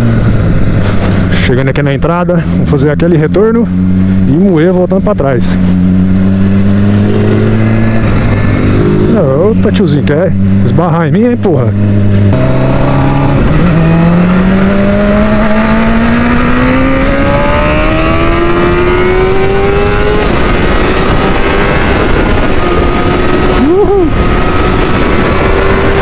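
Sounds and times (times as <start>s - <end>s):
wind rushing: 0.0s - 2.7s, 5.5s - 9.7s, 11.7s - 26.0s
motorcycle engine accelerating: 0.0s - 26.0s.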